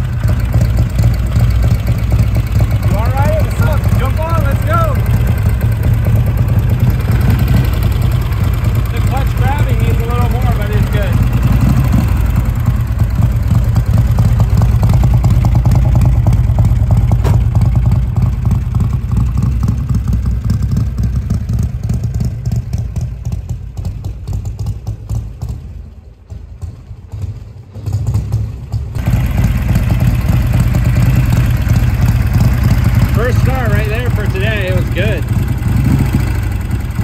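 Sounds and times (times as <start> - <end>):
motorcycle engine throbbing: 0.0 - 37.0.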